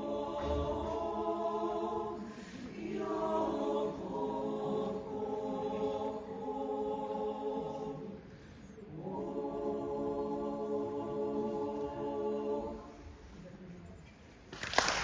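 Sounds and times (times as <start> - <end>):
choir singing a cappella: 0.0 - 13.4.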